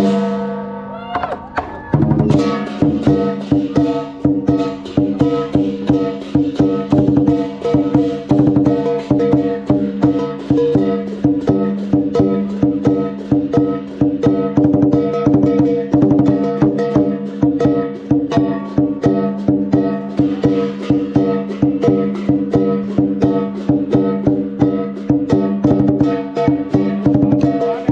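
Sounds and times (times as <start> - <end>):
drum beaten rapidly: 0.0 - 27.9.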